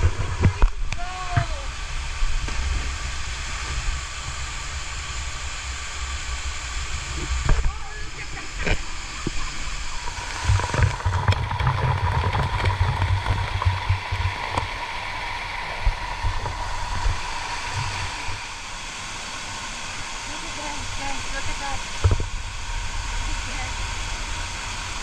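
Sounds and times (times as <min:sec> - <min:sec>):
low rumble: 0:00.0 - 0:25.0
waterfall rushing: 0:00.0 - 0:25.0.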